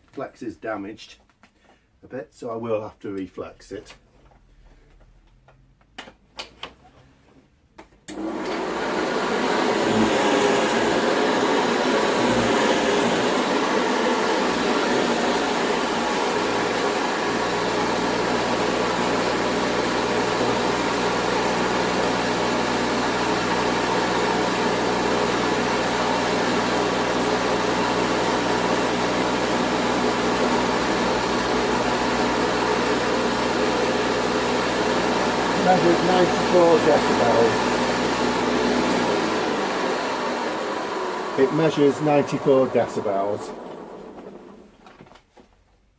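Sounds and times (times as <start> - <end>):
vacuum cleaner motor running: 8.1 - 44.9.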